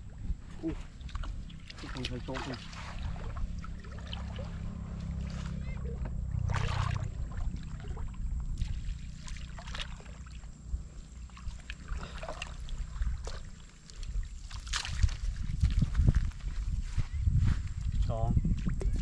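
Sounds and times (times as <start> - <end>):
water splashing and trickling: 0.0 - 16.6
low rumble: 0.0 - 19.0.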